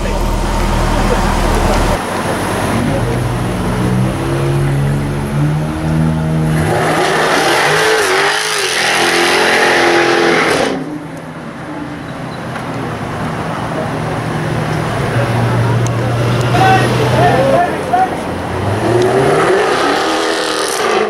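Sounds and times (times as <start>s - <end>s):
car engine revving hard: 0.0s - 12.1s, 12.8s - 21.0s.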